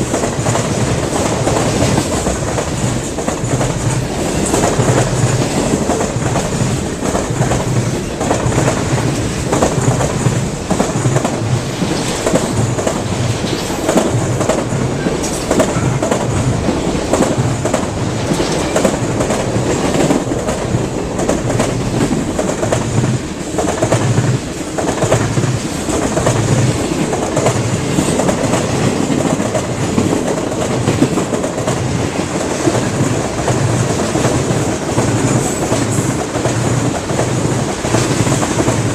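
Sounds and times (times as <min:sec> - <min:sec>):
train cars rolling past: 0:00.0 - 0:38.9
train wheels clickety-clack: 0:00.0 - 0:38.9.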